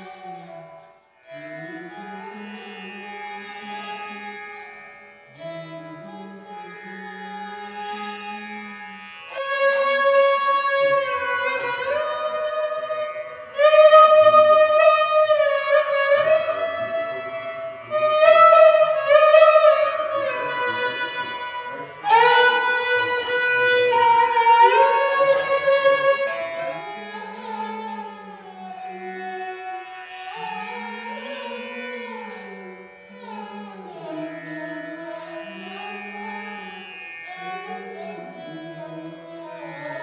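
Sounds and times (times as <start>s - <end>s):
bowed string instrument melody: 0.0s - 40.0s.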